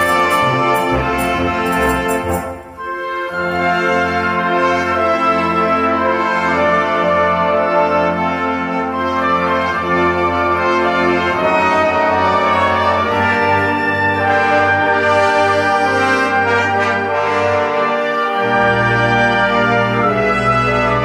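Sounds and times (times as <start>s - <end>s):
orchestral music with brass: 0.0s - 21.0s.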